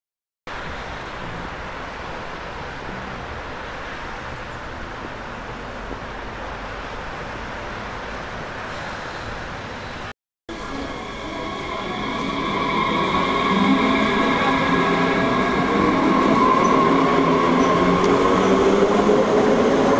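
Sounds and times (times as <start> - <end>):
outdoor background rush: 0.5 - 19.9.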